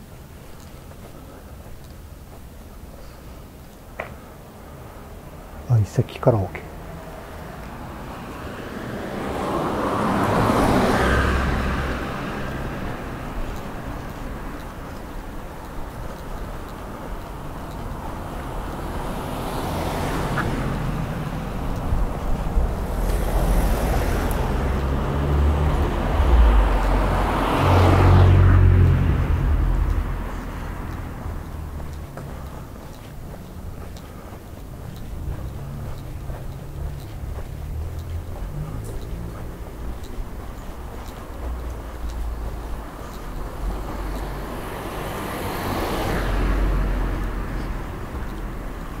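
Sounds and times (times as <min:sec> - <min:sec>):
cars driving past: 0:04.3 - 0:49.0.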